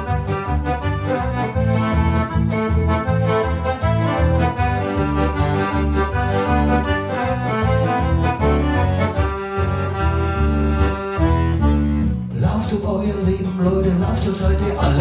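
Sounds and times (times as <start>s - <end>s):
accordion playing country music: 0.0s - 15.0s.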